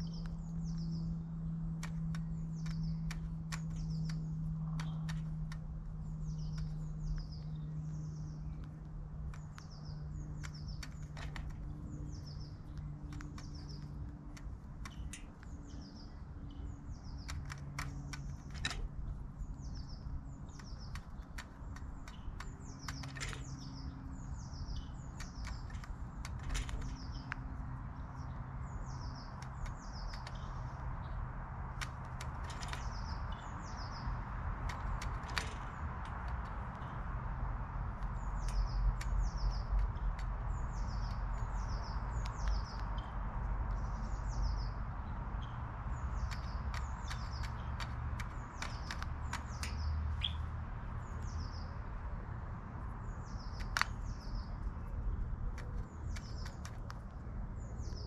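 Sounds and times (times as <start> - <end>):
sharp clicks: 0.0 - 52.2, 52.8 - 58.0
bird chirping: 0.0 - 58.0.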